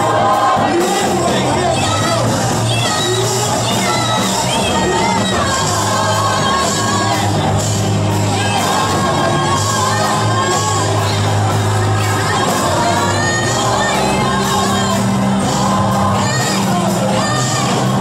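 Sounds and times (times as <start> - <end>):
congregation singing and shouting: 0.0 - 18.0
keyboard playing held chords: 0.0 - 18.0
steady bass: 0.0 - 18.0.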